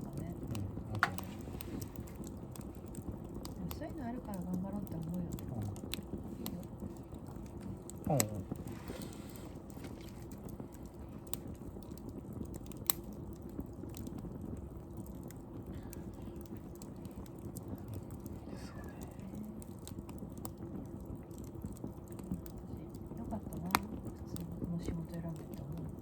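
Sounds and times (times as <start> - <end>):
fire popping: 0.0 - 26.0
wood fire crackling: 0.0 - 26.0.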